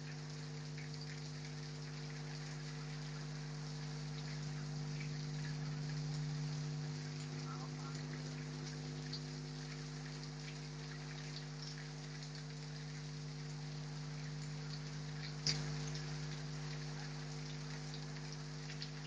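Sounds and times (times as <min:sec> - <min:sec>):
rain falling: 0:00.0 - 0:19.0
raindrops ticking on surfaces: 0:00.0 - 0:19.0
steady low hum: 0:00.0 - 0:19.0.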